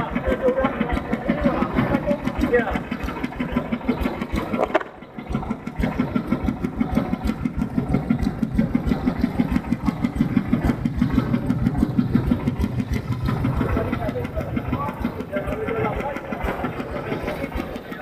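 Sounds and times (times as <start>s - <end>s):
machine engine pulsing: 0.0s - 18.0s.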